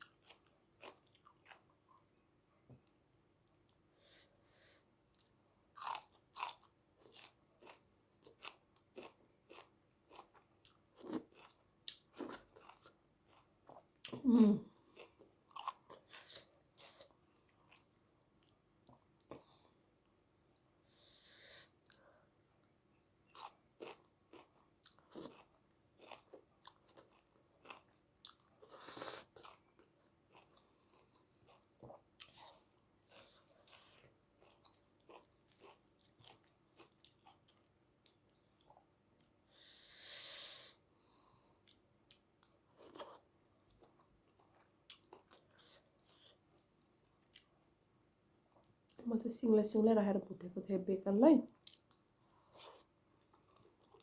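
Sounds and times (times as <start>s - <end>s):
soft chewing and lip smacks: 0.0s - 4.1s, 5.1s - 21.0s, 21.6s - 39.6s, 40.7s - 49.0s, 51.5s - 54.0s.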